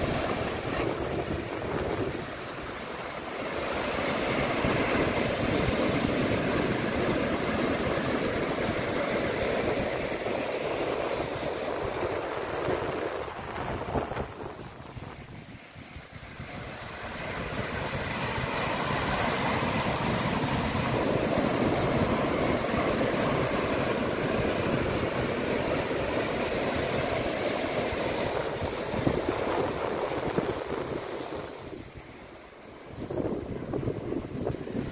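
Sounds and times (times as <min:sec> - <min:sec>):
ocean waves washing onto shore: 0:00.0 - 0:34.9.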